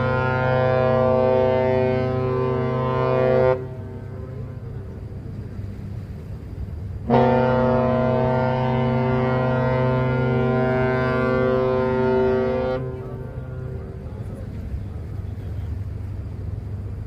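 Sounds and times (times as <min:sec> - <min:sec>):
deep ship horn blast: 0:00.0 - 0:05.5, 0:06.9 - 0:16.1.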